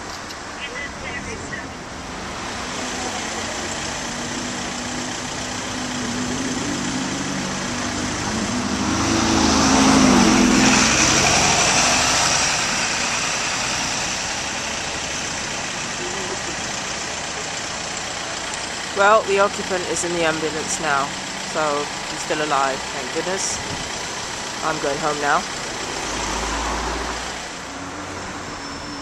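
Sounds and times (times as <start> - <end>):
bus driving past: 0.0 - 29.0
street traffic: 0.0 - 29.0.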